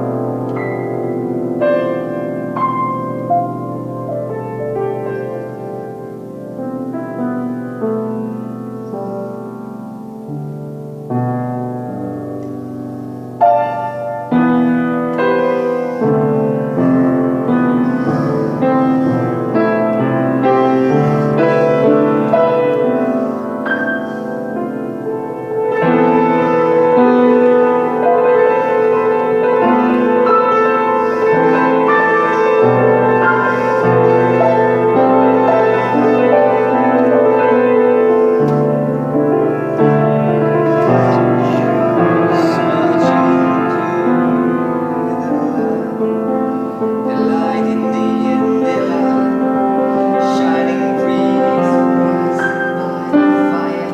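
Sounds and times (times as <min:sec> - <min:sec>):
slow solo piano music: 0:00.0 - 0:53.9.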